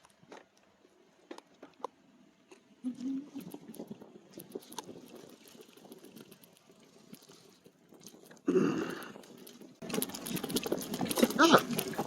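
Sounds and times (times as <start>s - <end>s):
bicycle rattles and ticks: 0.0s - 2.7s, 3.3s - 12.0s.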